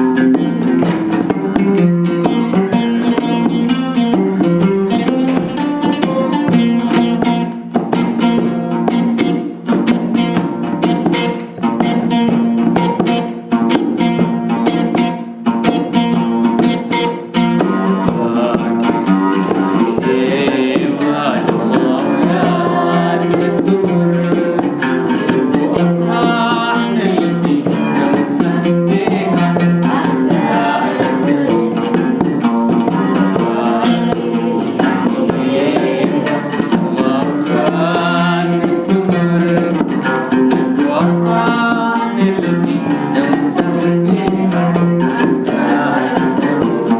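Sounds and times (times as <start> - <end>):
person singing: 0.0 - 14.9, 16.7 - 46.9
plucked string instrument: 0.0 - 46.9.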